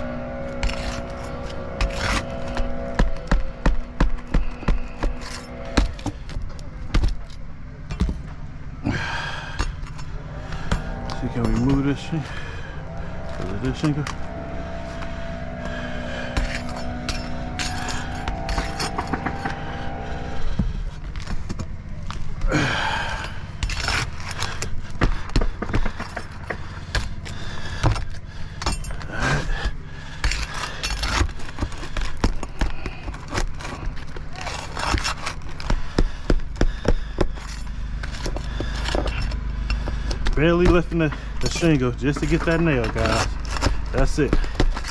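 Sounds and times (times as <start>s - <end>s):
hand tool scraping under shingle: 0.0s - 8.2s, 9.0s - 44.9s
steady low hum: 0.0s - 44.9s.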